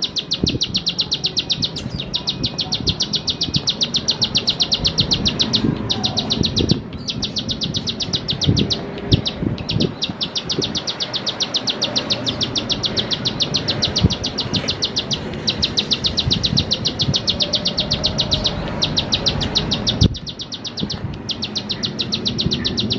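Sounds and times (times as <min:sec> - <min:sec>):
bird rapid clicking call: 0:00.0 - 0:22.9.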